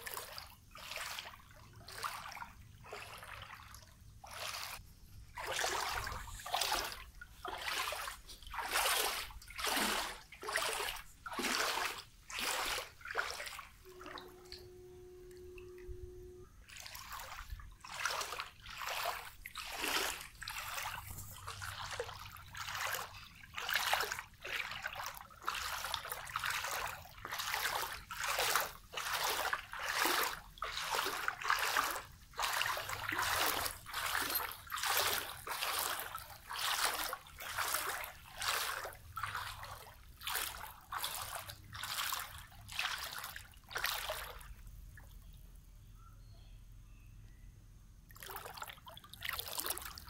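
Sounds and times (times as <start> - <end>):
water splashing and sloshing: 0.0 - 45.4, 48.1 - 50.0.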